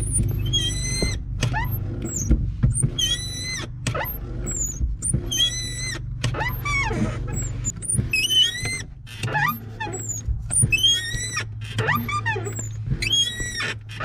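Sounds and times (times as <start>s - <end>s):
steady low hum: 0.0s - 13.9s
clutch pedal squeaking: 0.0s - 14.0s.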